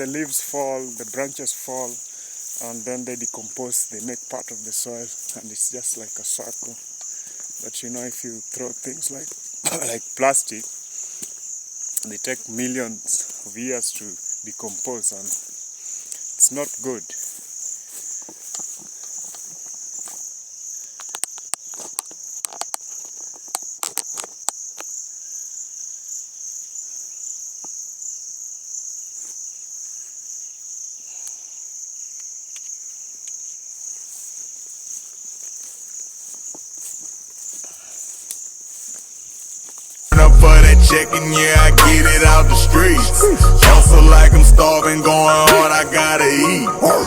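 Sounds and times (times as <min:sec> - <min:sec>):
insect chorus trilling: 0:00.0 - 0:40.1.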